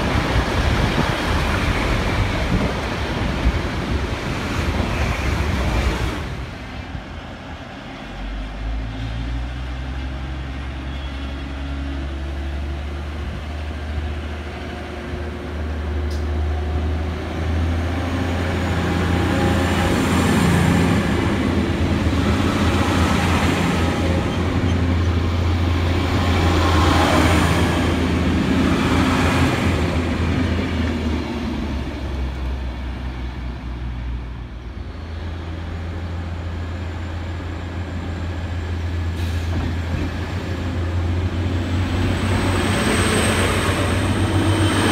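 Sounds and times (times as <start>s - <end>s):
train diesel engine drone: 0.0s - 44.9s
train rolling noise: 0.0s - 44.9s.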